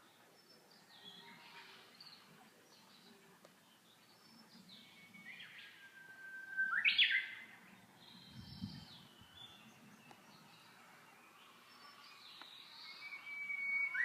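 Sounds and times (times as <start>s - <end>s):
bush warbler song: 0.0s - 14.0s.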